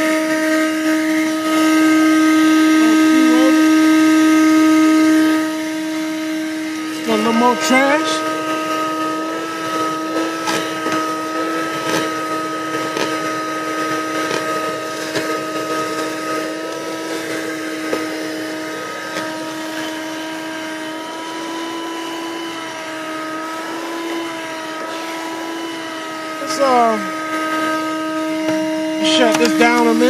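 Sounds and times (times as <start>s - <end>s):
vacuum cleaner motor whine: 0.0s - 30.0s.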